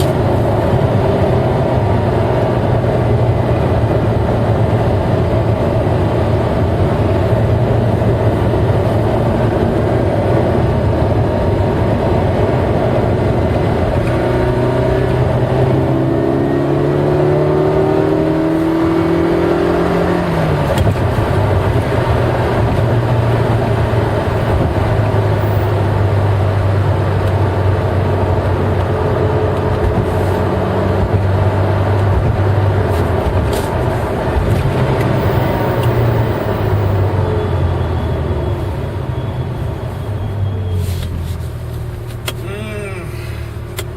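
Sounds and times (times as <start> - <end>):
car engine revving while driving: 0.0 - 40.0.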